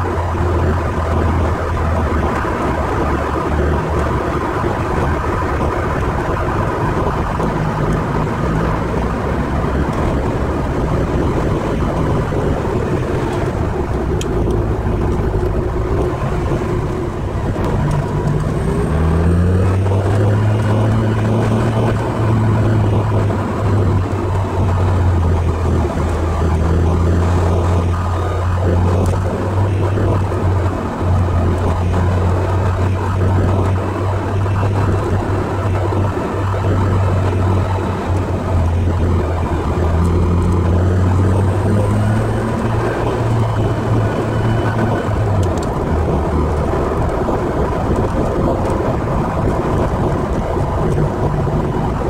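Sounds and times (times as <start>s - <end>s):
car engine running at speed: 0.0s - 52.0s
road noise: 0.0s - 52.0s.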